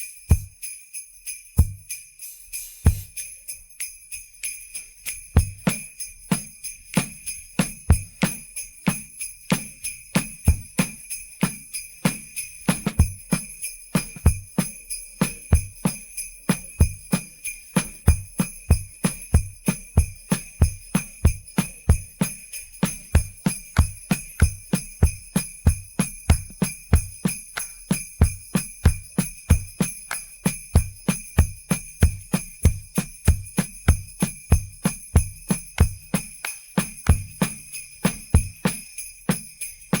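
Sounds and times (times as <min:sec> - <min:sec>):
sleigh bells jingling: 0:00.0 - 0:40.0
drum kit beat: 0:00.3 - 0:00.6, 0:02.9 - 0:03.2, 0:05.4 - 0:16.0, 0:16.6 - 0:40.0.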